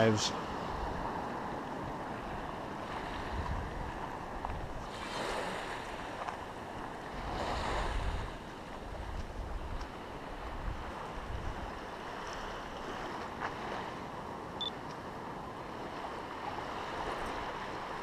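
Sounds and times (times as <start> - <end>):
sea waves washing in: 0.0 - 18.0
wind rumble on microphone: 0.4 - 18.0.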